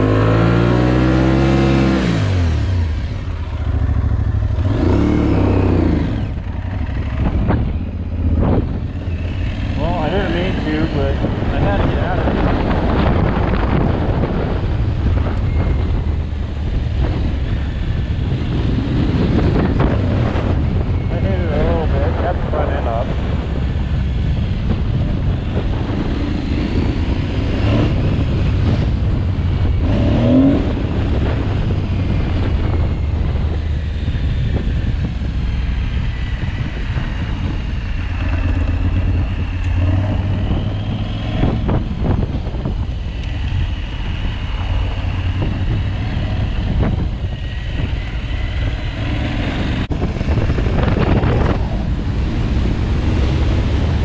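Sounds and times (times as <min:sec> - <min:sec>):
motorcycle engine revving: 0:00.0 - 0:54.0
wind buffeting microphone: 0:00.0 - 0:54.0.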